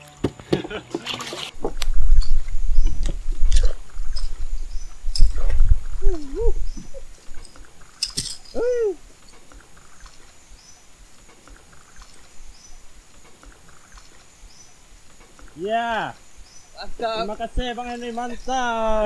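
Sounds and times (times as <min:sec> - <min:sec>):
high insect drone: 0:00.0 - 0:19.0
low rumbles: 0:01.5 - 0:19.0
rising and falling calls: 0:03.7 - 0:19.0.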